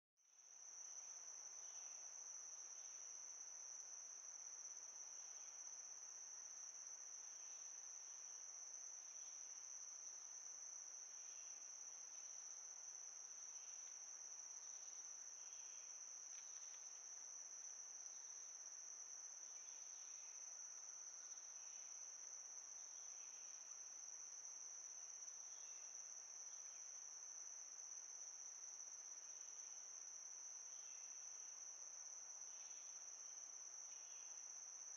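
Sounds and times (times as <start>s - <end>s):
high-pitched insect chorus: 0.3s - 34.9s.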